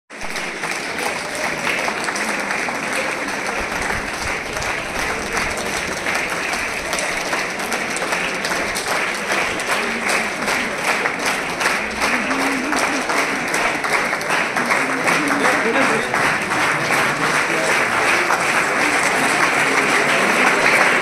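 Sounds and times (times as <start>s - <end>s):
crowd applause: 0.1s - 21.0s.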